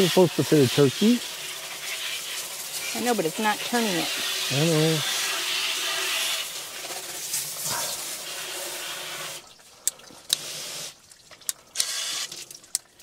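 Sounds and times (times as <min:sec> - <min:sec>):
water spraying from hose nozzle: 0:00.0 - 0:09.6, 0:10.3 - 0:12.7.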